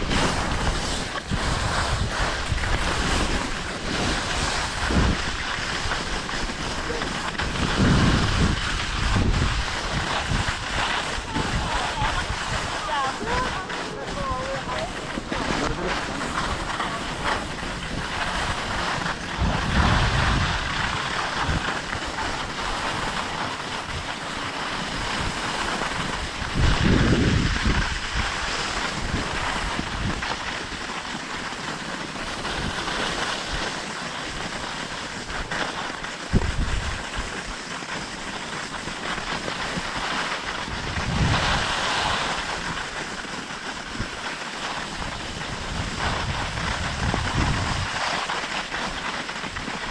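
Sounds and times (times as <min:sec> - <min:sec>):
wind rushing over microphone: 0:00.0 - 0:30.8, 0:36.3 - 0:37.3, 0:39.6 - 0:43.0, 0:43.9 - 0:49.9.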